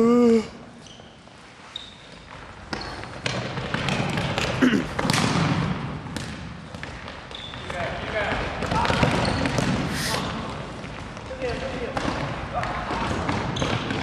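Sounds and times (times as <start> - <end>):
sneakers squeaking: 0.7 - 14.0.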